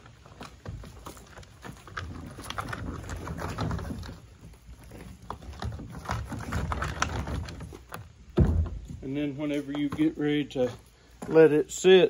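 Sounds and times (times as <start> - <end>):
footsteps on gravel: 0.0 - 11.9
cart wheels crunching gravel: 0.0 - 12.0.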